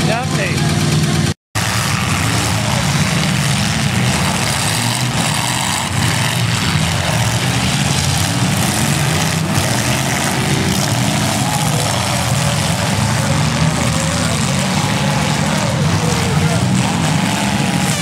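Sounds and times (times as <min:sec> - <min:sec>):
car engines running loud: 0:00.0 - 0:18.0.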